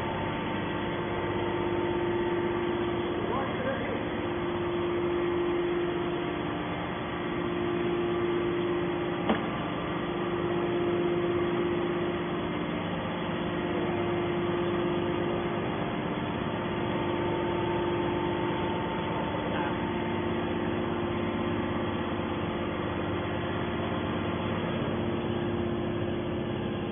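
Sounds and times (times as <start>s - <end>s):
hydraulic pump motor humming: 0.0s - 26.9s.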